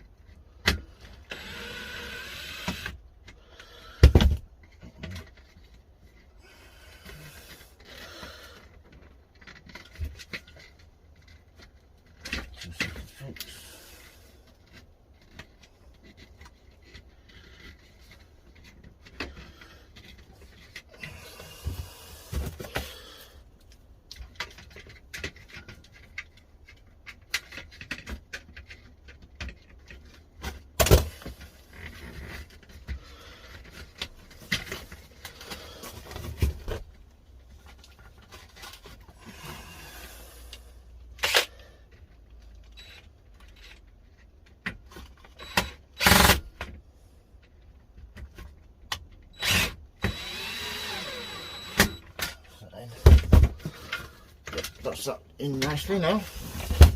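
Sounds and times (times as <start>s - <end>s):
hands clicking and scraping plastic: 2.7s - 39.7s, 40.5s - 49.4s.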